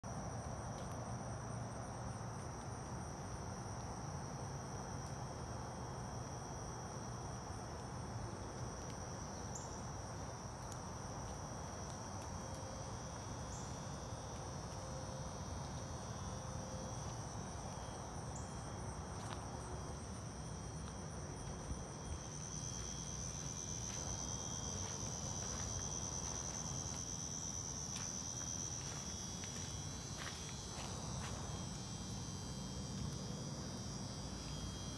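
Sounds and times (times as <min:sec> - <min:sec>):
insects trilling drone: 0:00.1 - 0:34.9.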